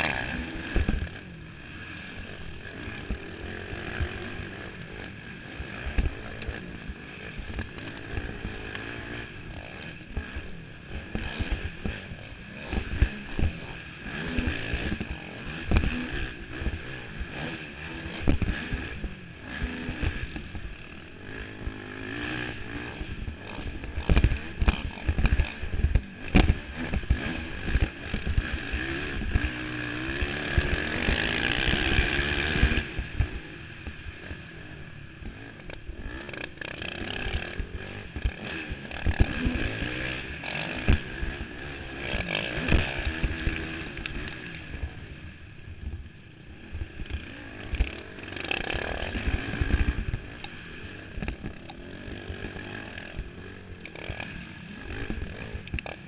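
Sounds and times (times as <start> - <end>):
quad engine revving: 0.0 - 45.9, 46.6 - 56.0.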